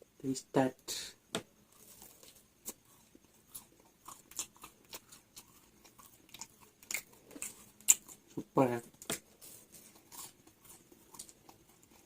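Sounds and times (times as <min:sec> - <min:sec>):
crunchy chewing: 0:01.6 - 0:12.0.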